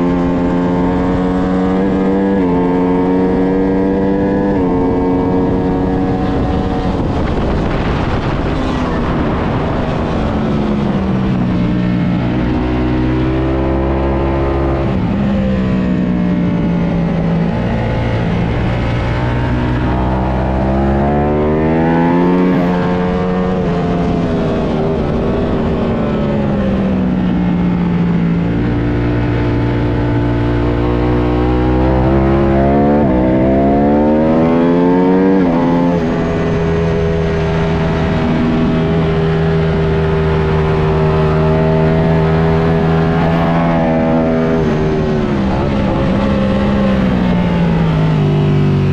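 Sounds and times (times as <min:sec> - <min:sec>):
motorcycle engine racing with upshifts: 0:00.0 - 0:48.9.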